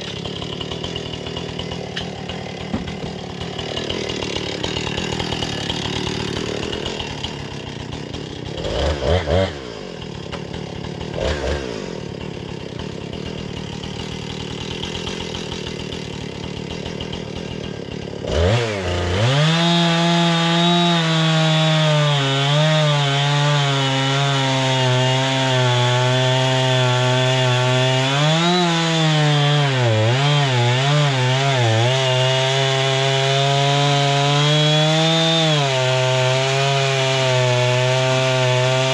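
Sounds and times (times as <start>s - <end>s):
saw blade cutting log: 0.0s - 38.9s.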